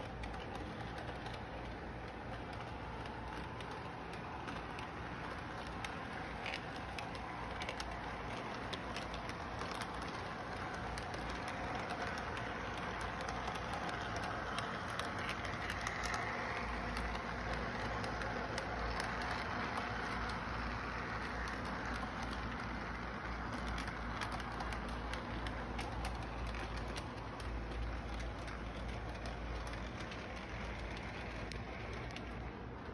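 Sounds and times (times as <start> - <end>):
steady low hum: 0.0 - 32.9
train wheels clicking on rails: 0.0 - 32.9.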